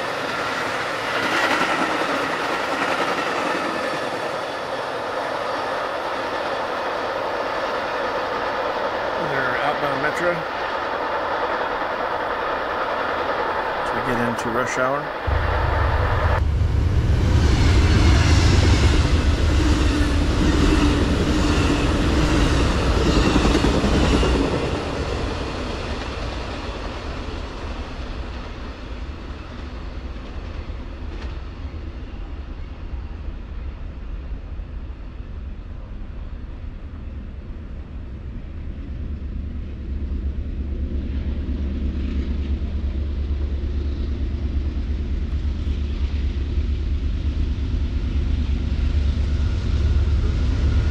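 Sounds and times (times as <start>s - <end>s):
train low rumble: 0.0s - 50.9s.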